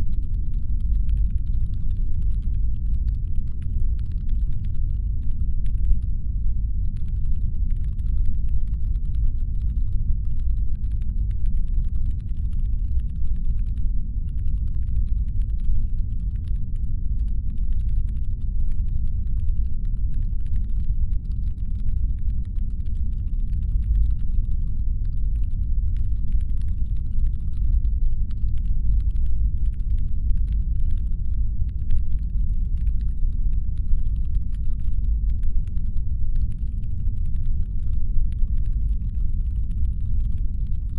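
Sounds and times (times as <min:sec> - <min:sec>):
deep engine hum rumble: 0:00.0 - 0:40.9
faint clicking and crackling: 0:00.0 - 0:40.9.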